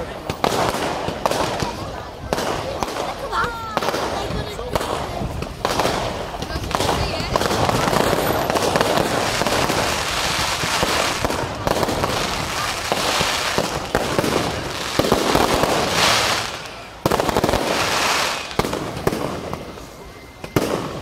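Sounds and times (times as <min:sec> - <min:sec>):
fireworks bursts and bangs: 0:00.0 - 0:21.0.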